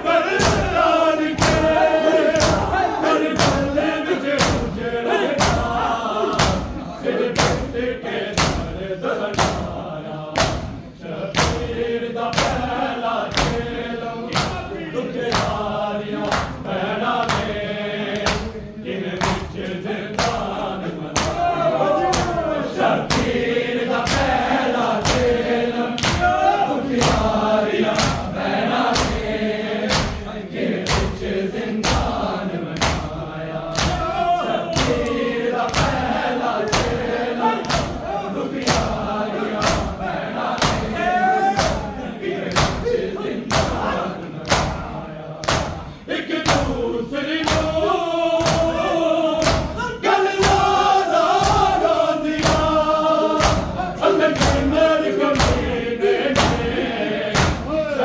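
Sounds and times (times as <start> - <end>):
men chanting a lament in unison: 0.0 - 58.0
rhythmic chest-beating thuds: 0.0 - 58.0.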